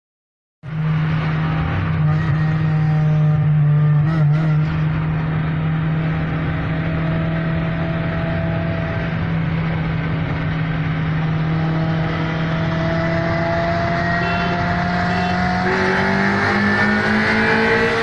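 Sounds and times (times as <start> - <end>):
car engine at high revs: 0.7 - 18.0.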